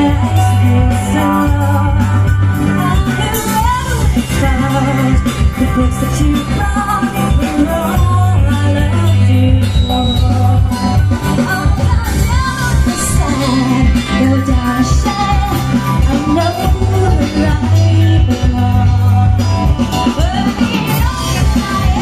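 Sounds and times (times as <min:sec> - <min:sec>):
live rock band playing: 0:00.0 - 0:22.0
person singing: 0:00.0 - 0:22.0.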